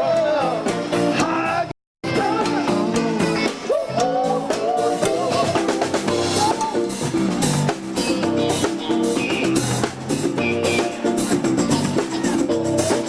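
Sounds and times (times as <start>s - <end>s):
drum kit beat: 0.0s - 13.0s
rock song with singing: 0.0s - 13.0s.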